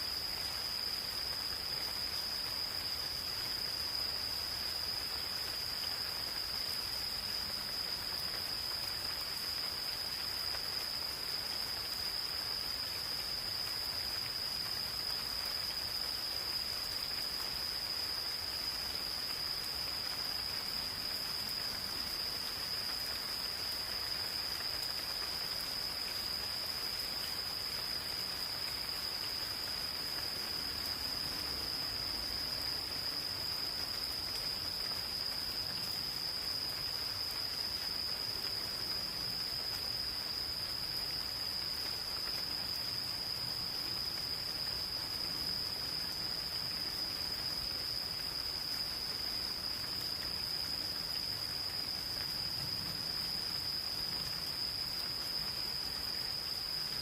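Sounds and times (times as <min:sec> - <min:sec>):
gentle rain patter: 0:00.0 - 0:57.0
insects trilling: 0:00.0 - 0:57.0.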